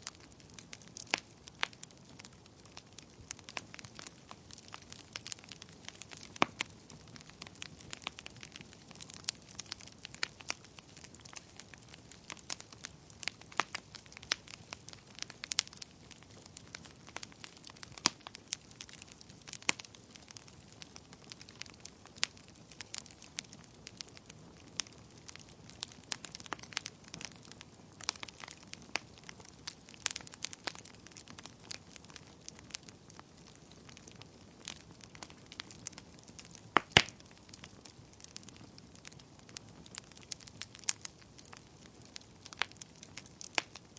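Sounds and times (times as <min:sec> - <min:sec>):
faint low hiss: 0:00.0 - 0:43.9
wood fire crackling: 0:00.0 - 0:43.9.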